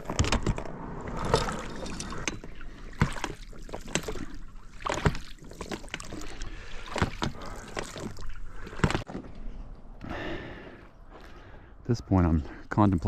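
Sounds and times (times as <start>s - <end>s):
water splashing and sloshing: 0.0s - 11.8s.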